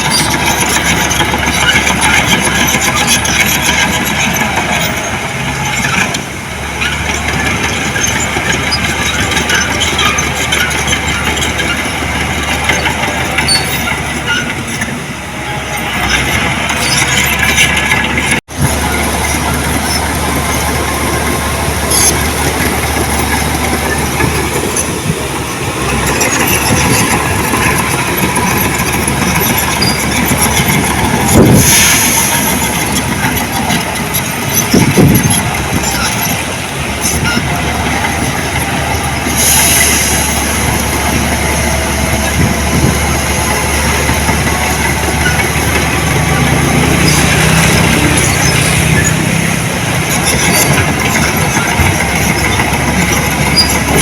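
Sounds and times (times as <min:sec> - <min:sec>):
diesel earthmoving machinery running: 0:00.0 - 0:54.0.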